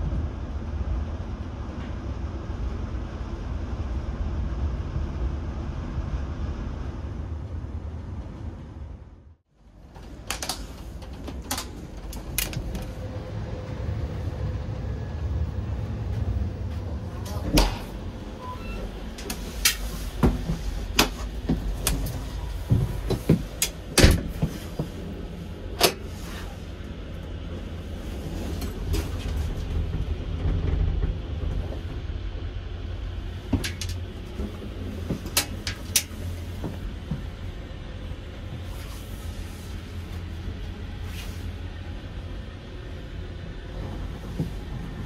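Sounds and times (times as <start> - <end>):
train coach rumbling: 0.0 - 45.0.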